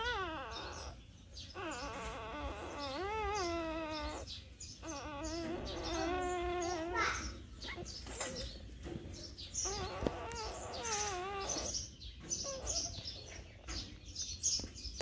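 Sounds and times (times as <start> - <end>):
puppies whining and squeaking: 0.0 - 14.7.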